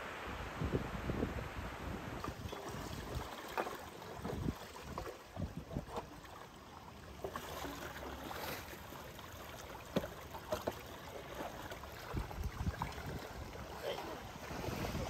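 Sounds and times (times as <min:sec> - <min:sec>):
wading splashes: 0:02.2 - 0:15.0.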